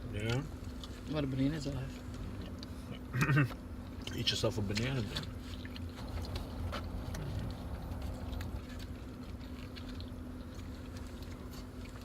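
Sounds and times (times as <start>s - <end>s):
chewing and mouth smacking: 0.0s - 12.0s
steady low hum: 0.0s - 12.0s.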